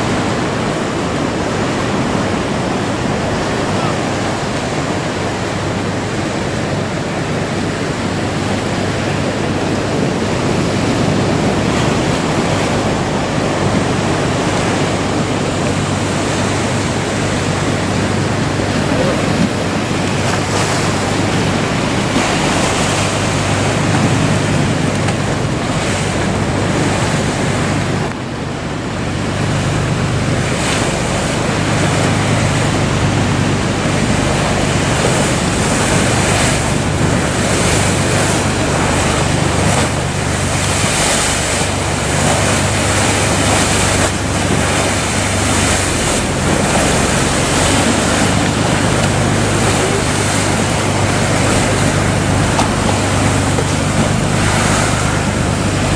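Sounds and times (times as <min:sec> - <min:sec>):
churning sea water: 0:00.0 - 0:55.9
low steady rumble: 0:00.0 - 0:55.9
waves breaking: 0:00.0 - 0:55.9
wind buffeting the microphone: 0:00.0 - 0:55.9.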